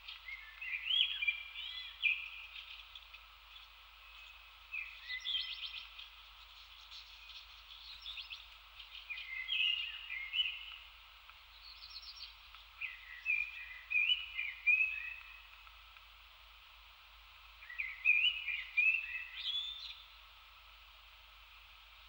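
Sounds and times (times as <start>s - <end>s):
songbirds chirping: 0.0s - 20.4s.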